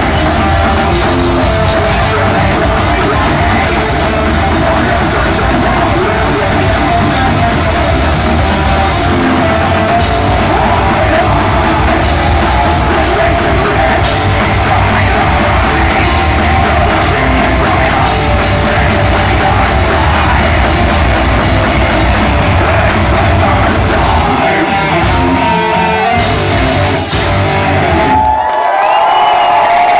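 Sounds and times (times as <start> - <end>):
metal band playing live: 0.0 - 28.4.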